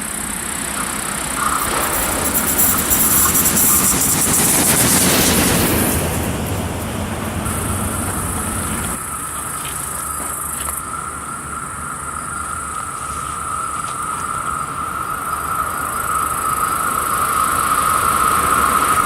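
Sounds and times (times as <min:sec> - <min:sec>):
high hiss: 0:00.0 - 0:19.0
high-pitched whine from rails: 0:00.0 - 0:19.0.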